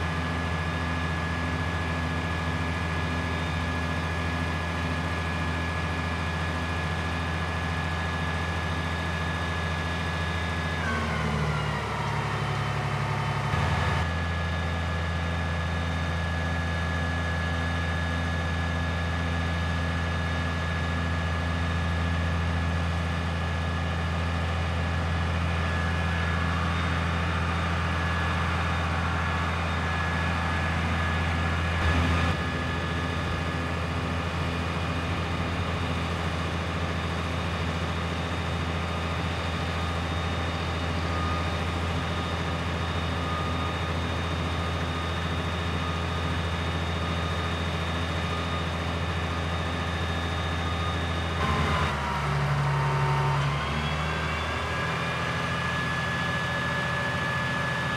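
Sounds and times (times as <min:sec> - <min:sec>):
diesel engine running: 0:00.0 - 0:57.9
hydraulic whine: 0:00.1 - 0:18.0, 0:22.8 - 0:57.9.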